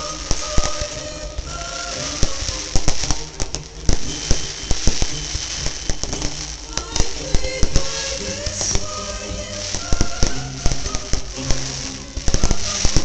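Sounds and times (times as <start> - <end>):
fireworks bangs and crackling: 0.0 - 13.0
music playing: 0.0 - 13.0.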